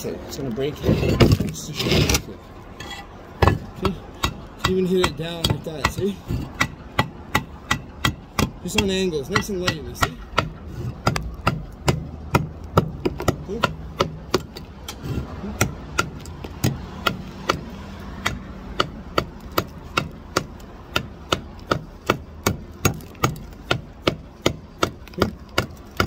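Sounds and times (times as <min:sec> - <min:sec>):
hammer tapping concrete block: 0:03.4 - 0:15.0, 0:15.6 - 0:17.6, 0:18.2 - 0:26.0.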